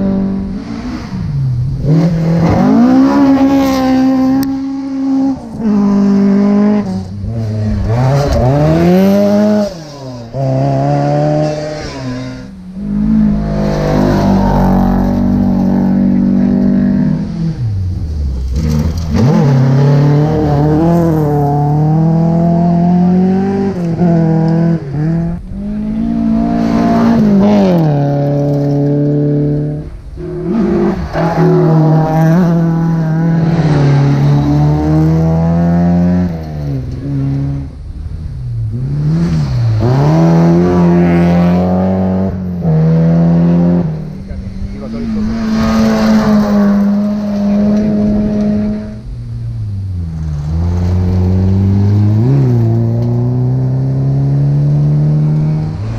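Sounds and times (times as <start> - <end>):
rally car engine at full throttle: 0.0 - 55.9.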